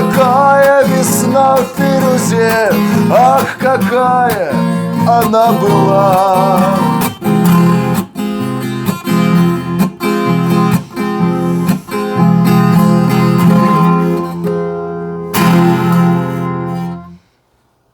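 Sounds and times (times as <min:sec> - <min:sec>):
acoustic guitar strummed chords: 0:00.0 - 0:17.3.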